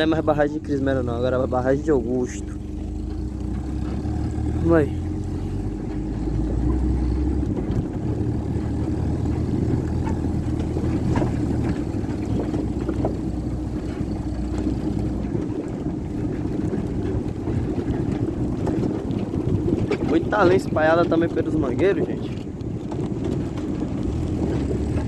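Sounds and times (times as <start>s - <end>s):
knocks and rattles: 0.0s - 25.0s
vehicle engine running: 0.0s - 25.0s.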